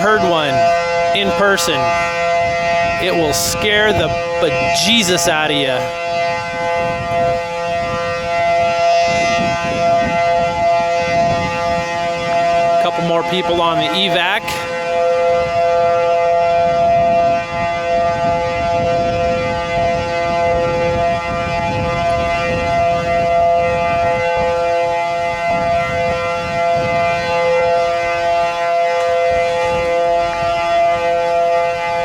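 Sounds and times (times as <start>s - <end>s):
air-raid siren steady tone: 0.0s - 32.0s
wind noise on microphone: 0.0s - 32.0s.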